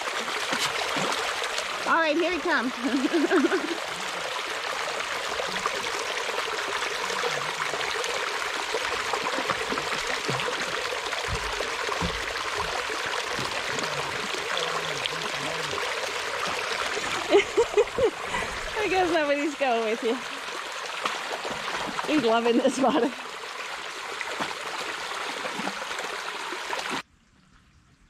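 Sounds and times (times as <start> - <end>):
creek water trickling over rock: 0.0 - 27.9.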